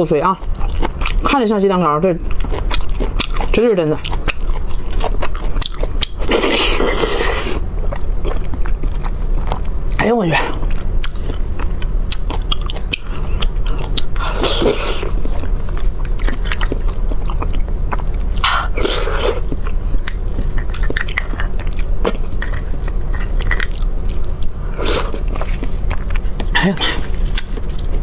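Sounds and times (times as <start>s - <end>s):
wet chewing and mouth clicks: 0.3s - 28.0s.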